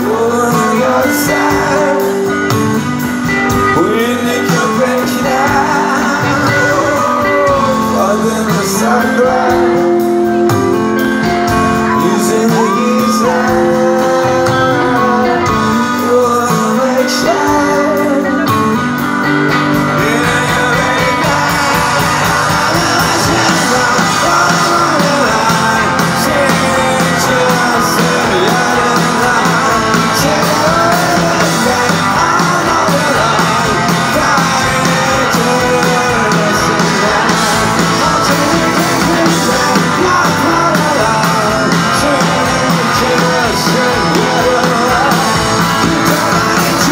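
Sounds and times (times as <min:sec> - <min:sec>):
drums: 0:00.0 - 0:46.9
electric guitars: 0:00.0 - 0:46.9
man singing: 0:00.0 - 0:46.9.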